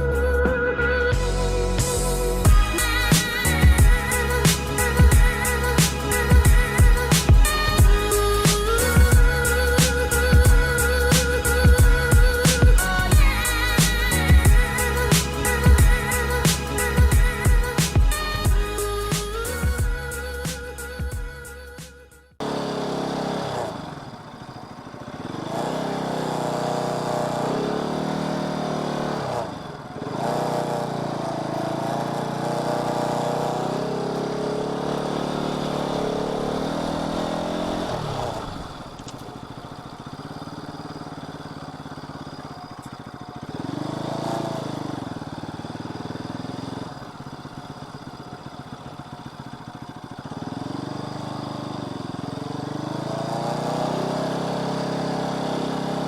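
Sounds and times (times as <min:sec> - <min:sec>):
car engine revving: 0:00.0 - 0:21.1, 0:22.4 - 0:47.3, 0:50.3 - 0:56.0.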